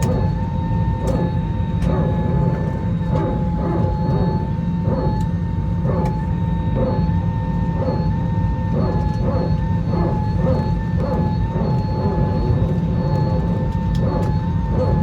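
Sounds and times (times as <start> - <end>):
aircraft cabin rumble: 0.0 - 15.0
steady whine: 0.0 - 15.0.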